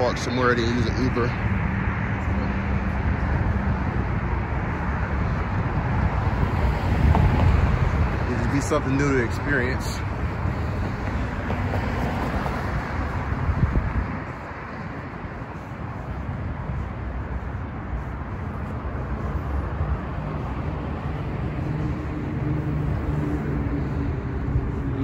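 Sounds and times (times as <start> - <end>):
cars passing on road: 0.0 - 25.0.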